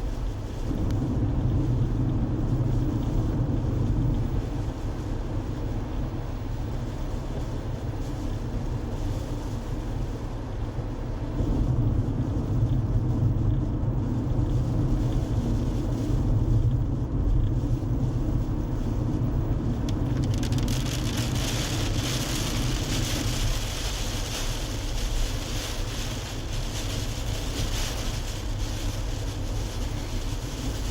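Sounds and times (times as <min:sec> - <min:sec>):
car engine and tyre rumble: 0:00.0 - 0:30.9.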